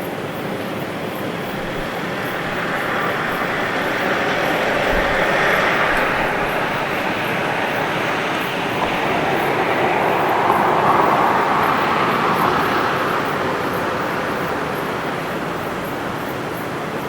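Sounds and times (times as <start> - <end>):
steady traffic noise: 0.0 - 17.0
vehicle passing by: 1.2 - 15.9.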